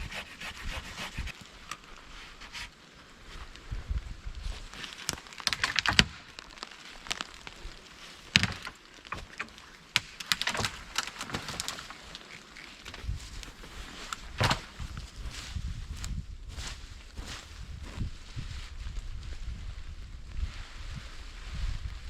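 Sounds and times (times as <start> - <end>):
dry twigs and leaves crunching: 1.3 - 19.5.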